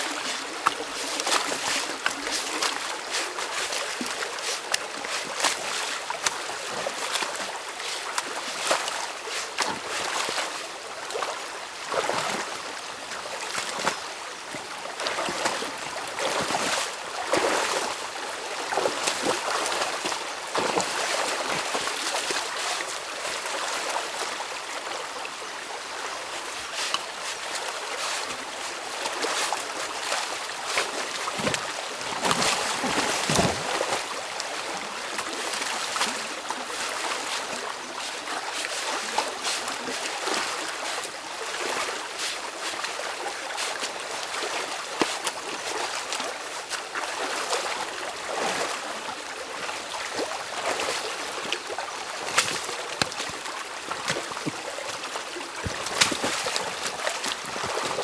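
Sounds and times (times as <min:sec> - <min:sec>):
stream water rushing and splashing: 0:00.0 - 0:58.0.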